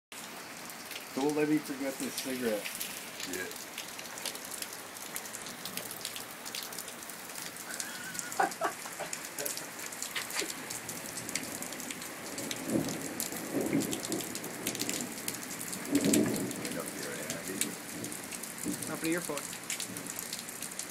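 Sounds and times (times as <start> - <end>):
rain falling: 0.1 - 20.9
sharp drips ticking: 0.2 - 20.9.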